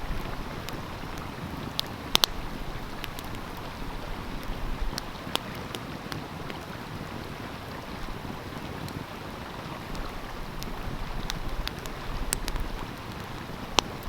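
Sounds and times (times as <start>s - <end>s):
stream flowing: 0.0s - 14.0s
wood fire crackling and popping: 0.0s - 14.0s.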